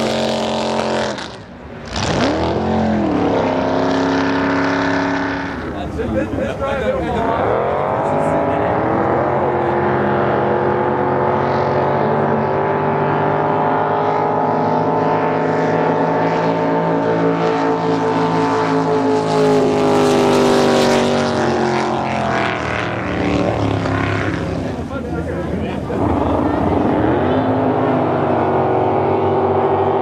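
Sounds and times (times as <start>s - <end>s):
boat engines at full throttle: 0.0s - 30.0s.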